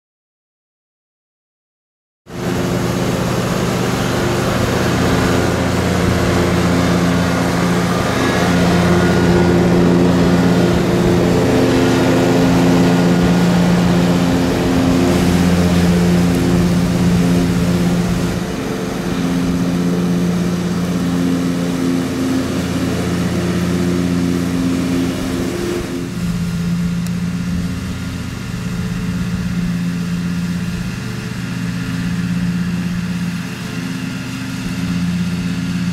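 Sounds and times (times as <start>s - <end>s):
riding lawn mower engine: 2.3s - 35.9s.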